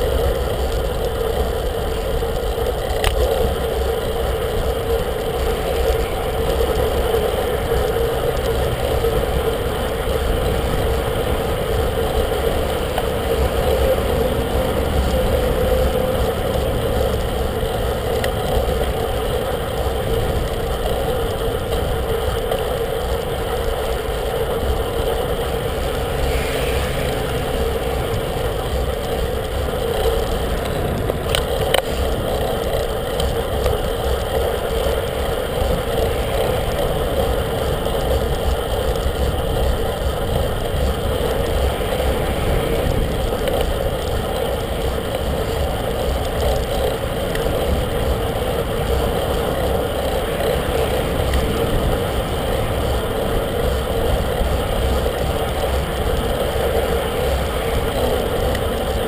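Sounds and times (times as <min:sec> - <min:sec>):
bicycle tyre and road rumble: 0:00.0 - 0:59.0
wind on microphone: 0:00.0 - 0:59.0.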